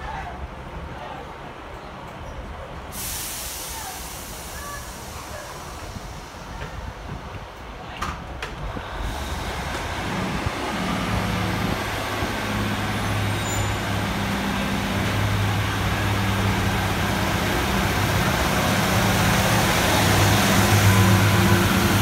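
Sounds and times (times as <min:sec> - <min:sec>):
diesel train engine pulling away: 0:02.8 - 0:07.8, 0:08.4 - 0:22.0.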